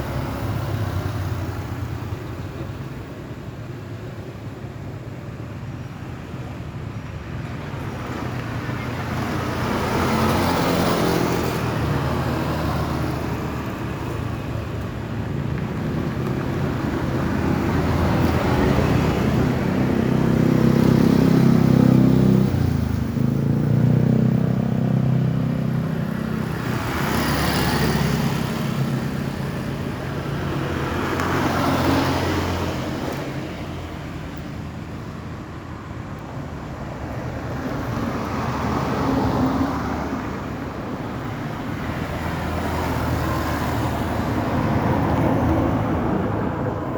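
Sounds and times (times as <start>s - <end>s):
vehicles swishing past: 5.6s - 46.9s.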